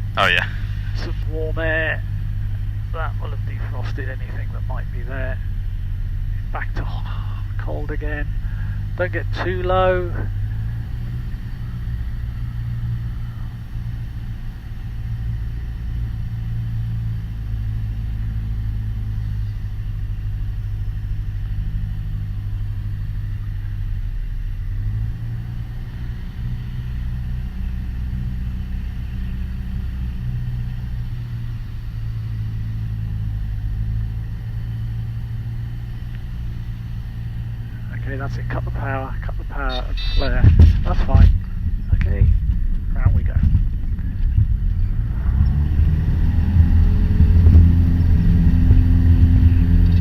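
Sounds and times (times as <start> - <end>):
propeller aircraft engine droning: 0.0 - 50.0.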